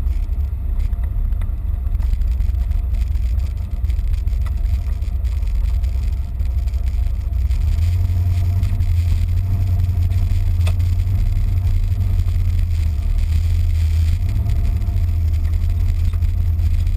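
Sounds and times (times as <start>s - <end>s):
low engine rumble inside cab: 0.0s - 16.9s.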